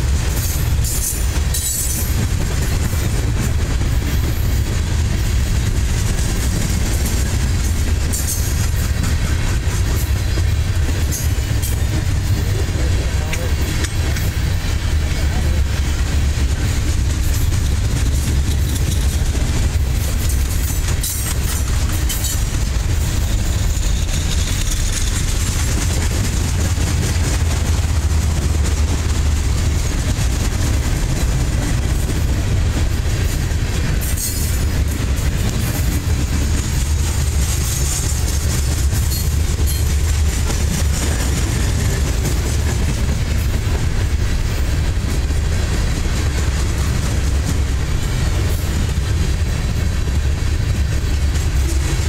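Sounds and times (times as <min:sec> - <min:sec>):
steel wheels rumbling on rail: 0:00.0 - 0:52.0.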